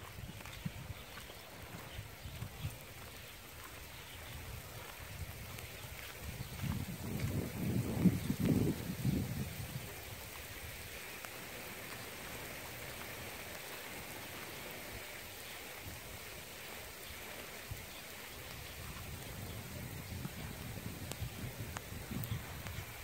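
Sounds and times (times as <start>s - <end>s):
faint raindrop ticks: 0.0s - 23.0s
steady rain hiss: 0.0s - 23.0s.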